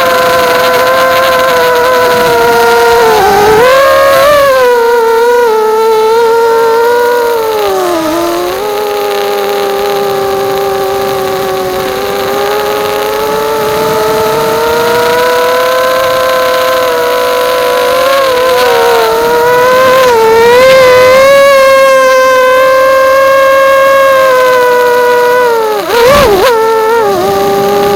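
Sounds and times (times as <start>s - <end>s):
drone motors whining: 0.0s - 27.9s.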